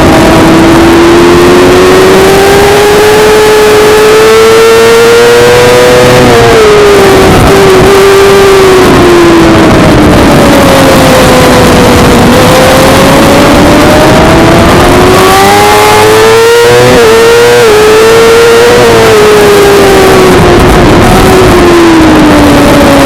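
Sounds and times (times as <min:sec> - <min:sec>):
dense rushing noise: 0:00.0 - 0:23.0
motorcycle engine revving high: 0:00.0 - 0:23.0.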